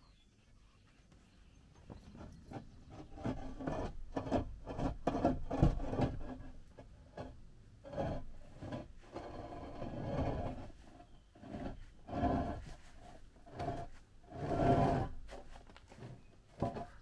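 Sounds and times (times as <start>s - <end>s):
concrete slab scraping on floor: 2.0s - 17.0s.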